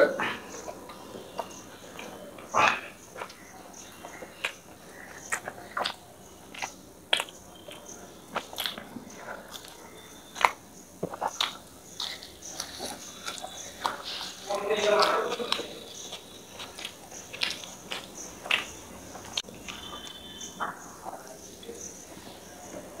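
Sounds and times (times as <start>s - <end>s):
person chewing food: 0.3s - 23.0s.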